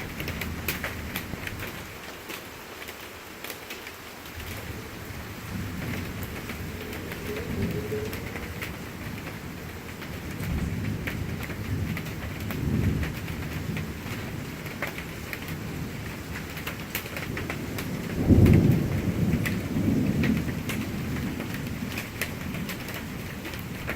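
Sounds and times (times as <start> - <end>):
steady rain falling: 0.0 - 23.9
thunder rumbling: 4.3 - 23.9.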